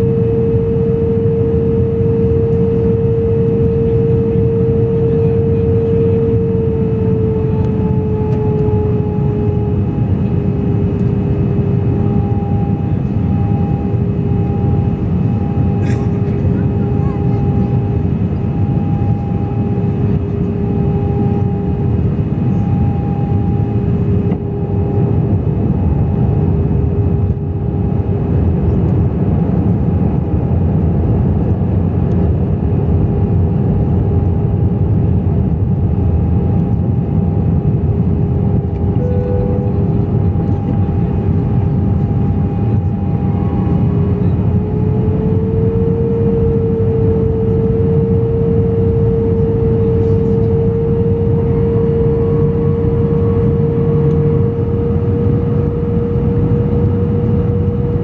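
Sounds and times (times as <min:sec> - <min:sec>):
airliner cabin rumble: 0:00.0 - 0:58.0
engine hum: 0:00.0 - 0:58.0.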